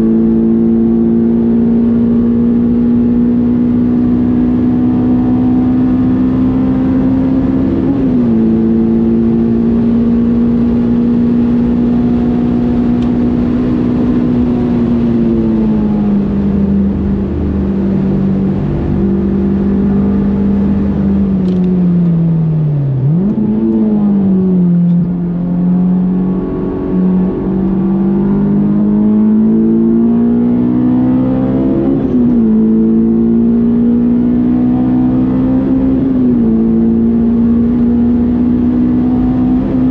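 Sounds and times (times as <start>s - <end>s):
car engine at high revs: 0.0s - 39.9s.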